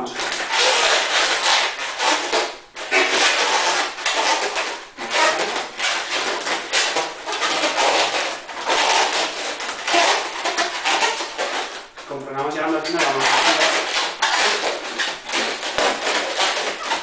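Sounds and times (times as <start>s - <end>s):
balloon rubbing and squeaking: 0.0s - 17.0s.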